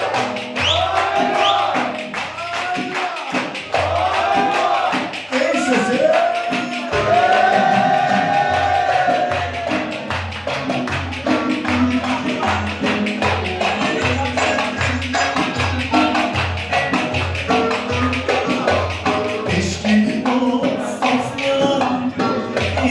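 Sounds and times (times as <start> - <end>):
hand percussion: 0.0 - 22.9
saz melody: 0.0 - 22.9.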